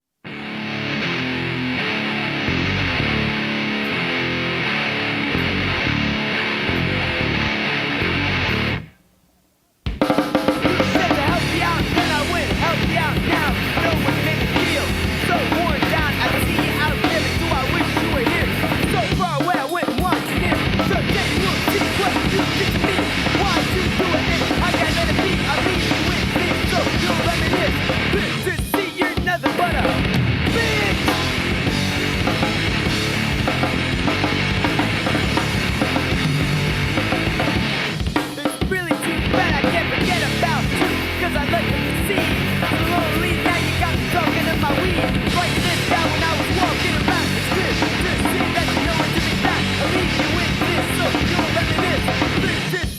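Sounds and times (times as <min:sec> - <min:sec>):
punk band playing: 0:00.2 - 0:08.9, 0:09.9 - 0:52.9
bass guitar: 0:00.2 - 0:09.0, 0:10.4 - 0:19.4, 0:20.0 - 0:52.9
distorted electric guitar: 0:00.2 - 0:52.9
drum kit: 0:09.8 - 0:52.9.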